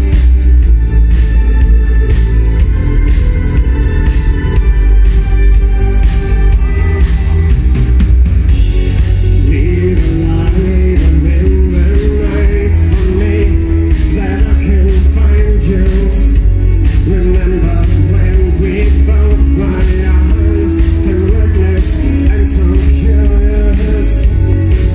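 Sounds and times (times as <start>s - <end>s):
heavy bass: 0.0s - 24.9s
live band music: 0.0s - 24.9s.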